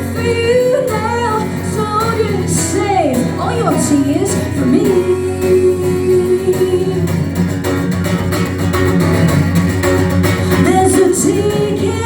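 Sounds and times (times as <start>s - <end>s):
bass guitar: 0.0s - 12.0s
strummed guitar: 0.0s - 12.0s.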